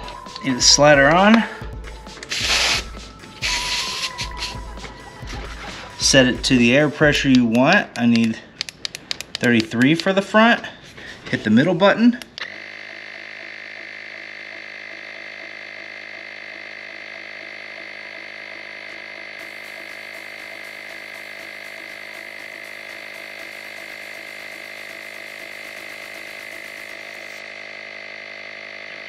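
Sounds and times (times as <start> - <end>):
air compressor running: 0.0 - 11.3, 12.3 - 29.0.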